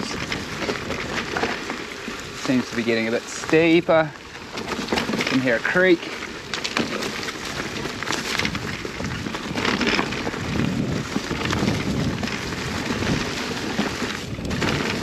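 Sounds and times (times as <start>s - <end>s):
bike rattling and knocking: 0.0s - 15.0s
tyres crunching over dirt: 0.0s - 15.0s.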